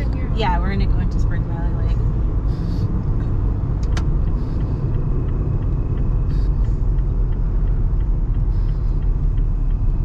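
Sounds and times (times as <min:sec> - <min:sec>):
car engine and tyres on road: 0:00.0 - 0:10.0
faint regular ticking: 0:00.0 - 0:10.0.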